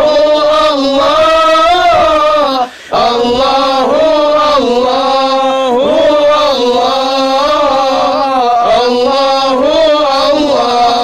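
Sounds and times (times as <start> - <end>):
man singing a devotional chant: 0.0 - 11.0.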